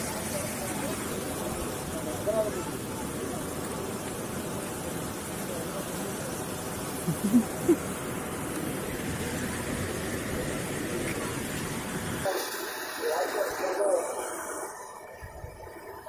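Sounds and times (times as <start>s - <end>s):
distant voices: 0.0s - 16.0s
stream and waterfall rushing: 0.0s - 16.0s.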